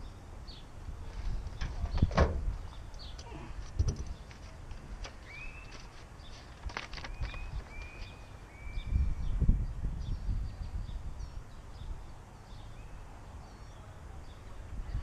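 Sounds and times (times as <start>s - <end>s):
wind rumbling on microphone: 0.0s - 5.6s, 6.2s - 13.4s, 14.1s - 15.0s
small birds chirping: 0.0s - 15.0s.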